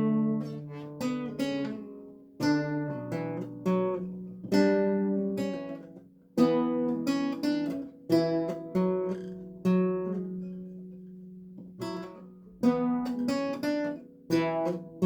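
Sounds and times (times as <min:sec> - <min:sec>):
lute plucked chords: 0:00.0 - 0:15.0.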